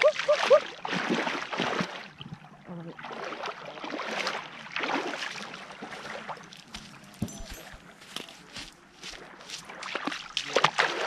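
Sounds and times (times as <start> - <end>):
sea water splashing: 0.0 - 7.8, 8.8 - 11.0.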